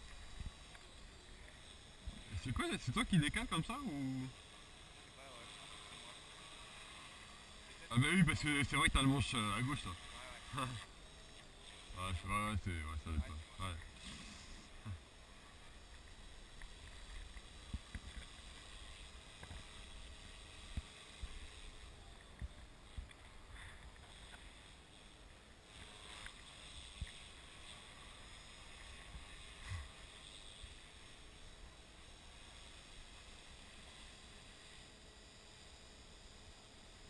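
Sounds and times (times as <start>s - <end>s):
model aircraft whine: 0.0s - 37.0s.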